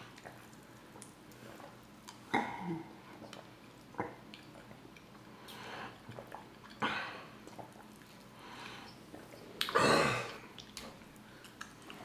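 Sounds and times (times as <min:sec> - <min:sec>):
mouth sounds of eating and drinking: 0:00.0 - 0:12.0.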